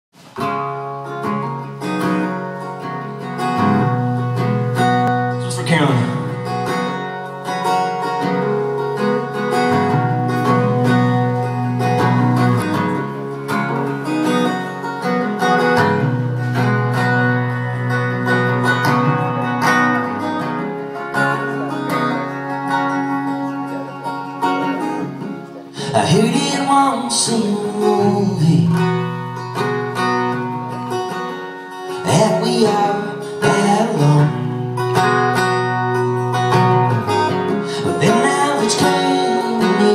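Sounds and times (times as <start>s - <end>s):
live country-rock band: 0.2s - 39.9s.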